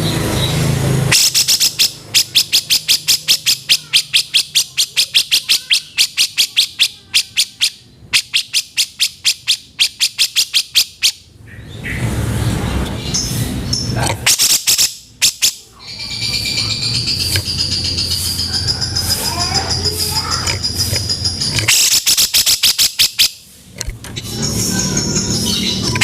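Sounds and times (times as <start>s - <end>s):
bird harsh repeated calls: 0.0s - 12.1s, 13.0s - 26.0s.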